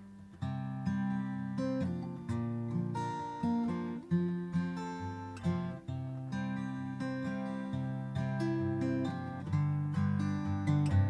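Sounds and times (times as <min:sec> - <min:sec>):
acoustic guitar picking chords: 0:00.0 - 0:11.0.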